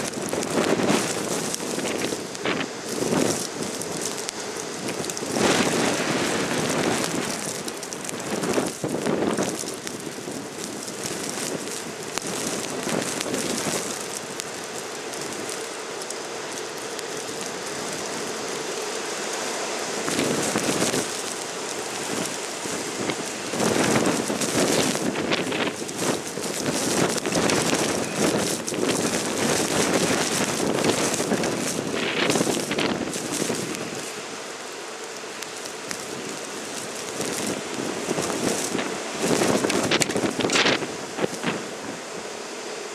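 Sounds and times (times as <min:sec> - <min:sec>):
wind gusts buffeting microphone: 0:00.0 - 0:34.4, 0:35.4 - 0:42.3
blizzard wind hissing: 0:00.0 - 0:42.9.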